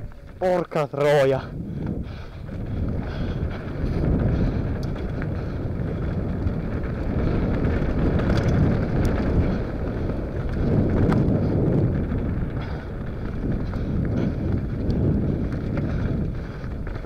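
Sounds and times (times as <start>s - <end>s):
bike tyre rumble: 0.0s - 17.0s
wind rushing over microphone: 0.0s - 17.0s
bike clicks and knocks: 1.8s - 17.0s.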